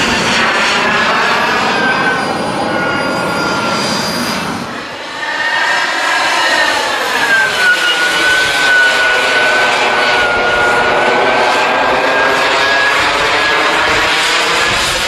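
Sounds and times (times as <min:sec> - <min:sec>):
model jet engine whining: 0:00.0 - 0:15.0.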